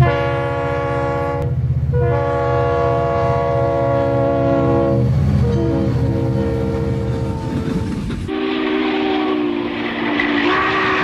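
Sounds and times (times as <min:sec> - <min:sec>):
train horn blasts: 0:00.0 - 0:07.6, 0:08.3 - 0:11.0
train rumbling: 0:00.0 - 0:11.0.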